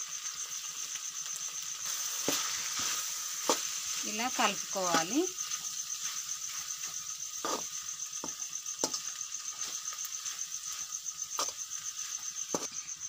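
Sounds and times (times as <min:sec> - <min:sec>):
metal spoon scraping a pan: 0:01.8 - 0:12.8.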